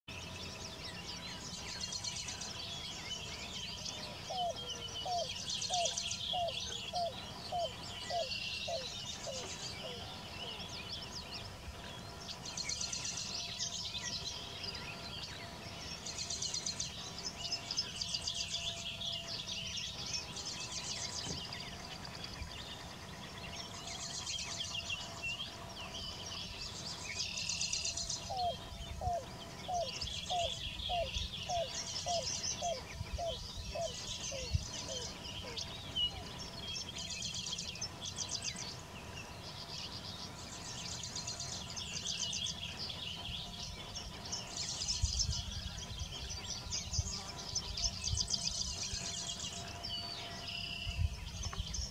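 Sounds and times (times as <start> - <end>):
birds chirping: 0.1 - 51.9.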